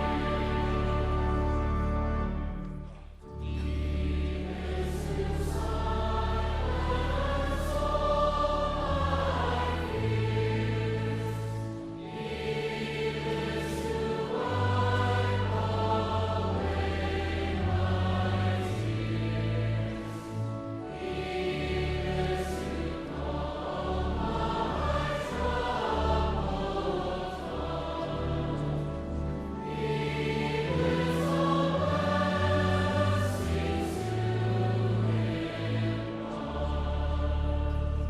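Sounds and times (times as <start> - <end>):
choir singing a hymn: 0.0 - 38.0.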